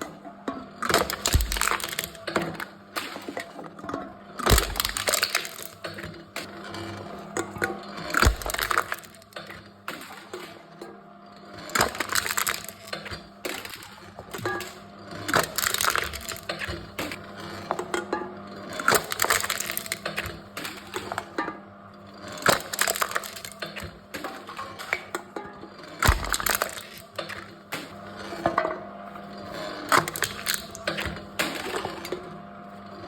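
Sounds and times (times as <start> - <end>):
cans crushed in machine: 0.0 - 33.0.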